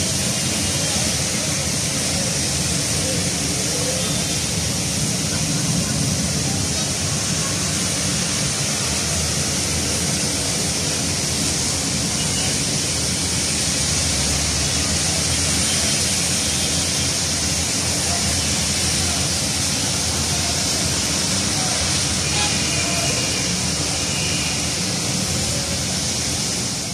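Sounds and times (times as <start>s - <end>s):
heavy rain hissing: 0.0s - 26.9s
traffic on wet roads: 0.0s - 26.9s.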